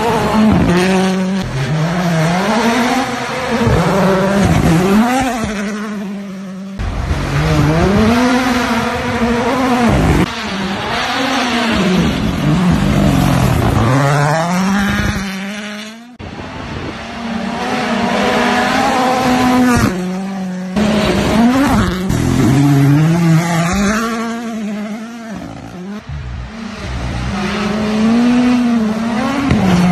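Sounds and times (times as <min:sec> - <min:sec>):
rally car engines revving: 0:00.0 - 0:29.9.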